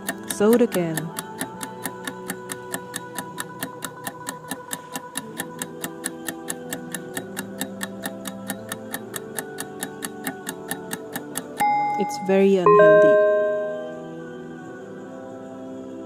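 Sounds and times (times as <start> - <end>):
timer ticking: 0.0 - 14.0
soft background music: 0.0 - 16.0.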